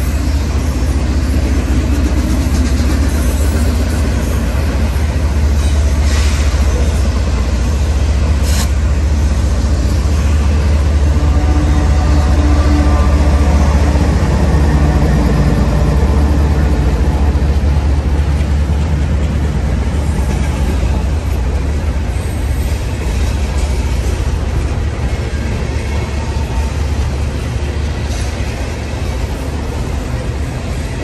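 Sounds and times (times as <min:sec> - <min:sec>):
diesel locomotive engine drone: 0:00.0 - 0:31.0
train cars rolling: 0:00.0 - 0:31.0.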